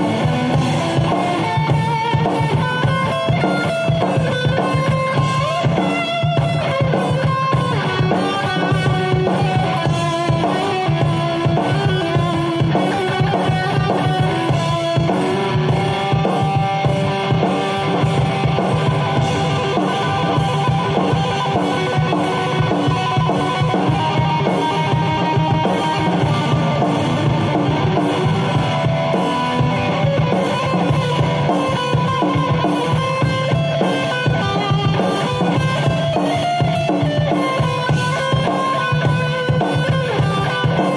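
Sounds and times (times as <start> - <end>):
drum kit beat: 0.0 - 40.9
electric guitar playing: 0.0 - 40.9.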